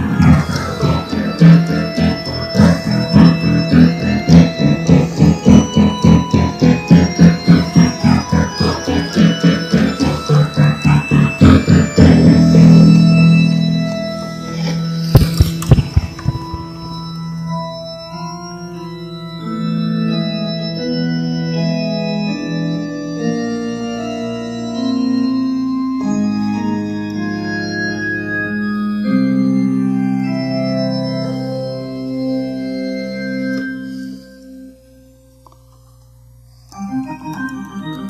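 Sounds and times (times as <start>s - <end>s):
electronic organ chords: 0.0s - 38.0s.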